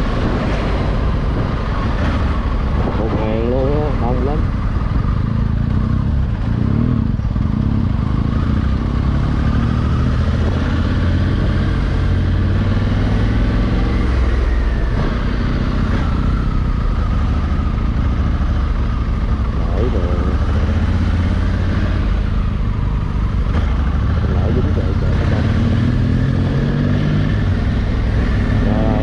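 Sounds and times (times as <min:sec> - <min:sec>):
motorcycle engine running: 0:01.6 - 0:29.0.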